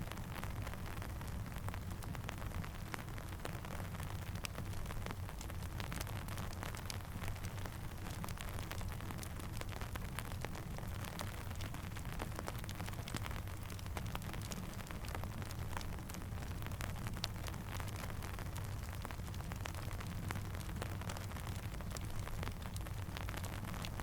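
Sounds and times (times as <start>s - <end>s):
campfire crackling and popping: 0.0s - 24.0s
steady rain falling: 0.0s - 24.0s.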